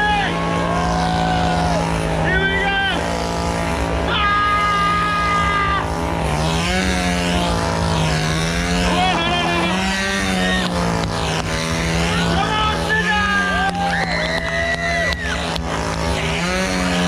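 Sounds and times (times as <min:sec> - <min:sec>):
chainsaw engine at full throttle: 0:00.0 - 0:17.0
crowd voices and yells: 0:00.0 - 0:17.0.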